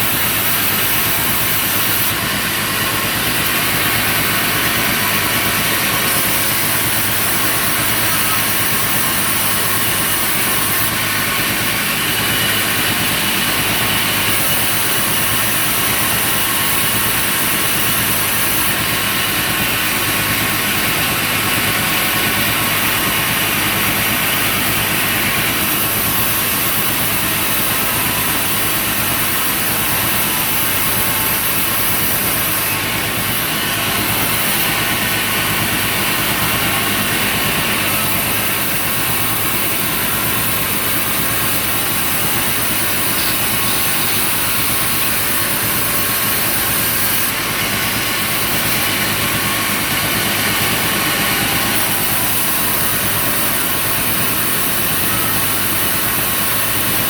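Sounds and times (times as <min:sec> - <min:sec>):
engine drone: 0:00.0 - 0:57.0
sawmill machinery running: 0:00.0 - 0:57.0.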